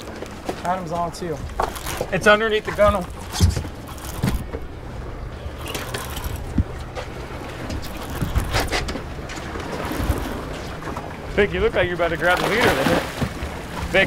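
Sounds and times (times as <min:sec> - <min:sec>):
outboard motors idling: 0:00.0 - 0:14.0
water noise: 0:00.0 - 0:14.0
wind: 0:00.0 - 0:14.0.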